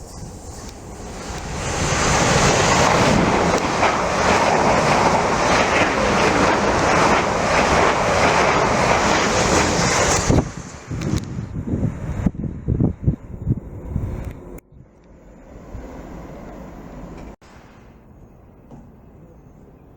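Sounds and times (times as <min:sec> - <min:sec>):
train passing at speed: 0:00.0 - 0:19.9.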